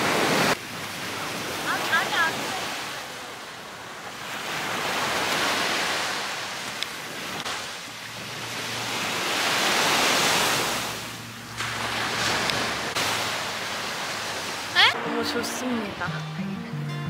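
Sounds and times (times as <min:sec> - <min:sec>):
small waves washing up beach: 0:00.0 - 0:16.2.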